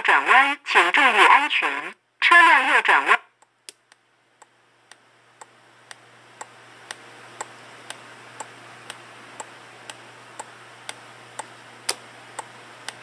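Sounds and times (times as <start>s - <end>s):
faint steady hum and hiss: 0.0s - 13.0s.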